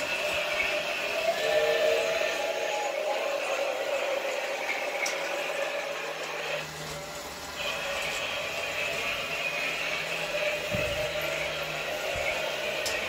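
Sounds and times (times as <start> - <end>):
toy train motor whirring: 0.0 - 13.0
wheels rattling on rails: 0.0 - 13.0.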